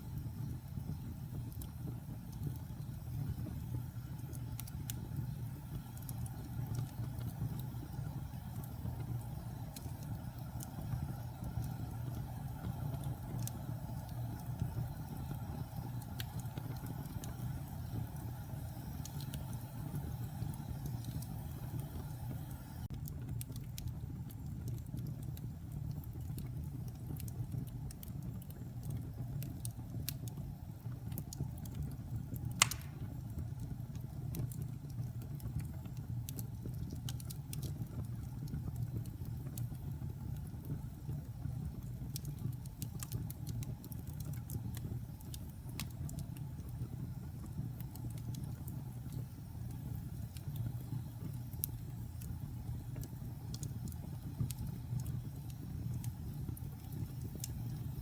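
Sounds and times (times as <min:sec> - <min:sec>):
fire crackling: 0:00.0 - 0:58.0
fire rumbling: 0:00.0 - 0:58.0
wood fire popping: 0:00.0 - 0:58.0.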